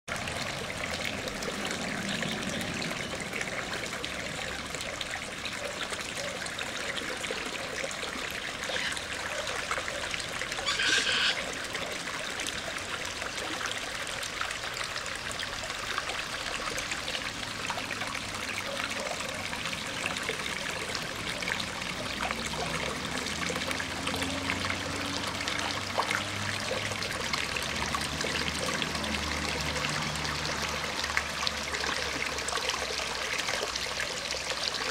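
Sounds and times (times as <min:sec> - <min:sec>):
creek trickling over rocks: 0:00.1 - 0:34.9.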